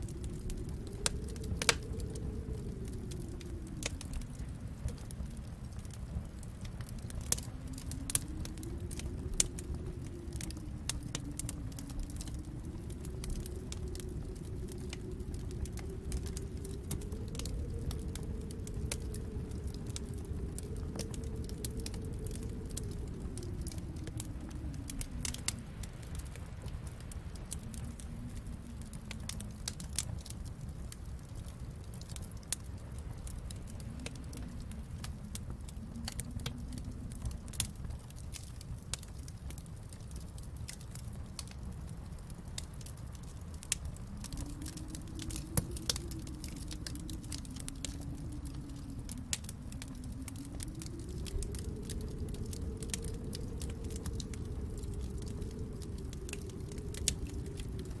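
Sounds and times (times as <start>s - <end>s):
wind howling: 0.0s - 58.0s
wood fire crackling: 0.0s - 58.0s.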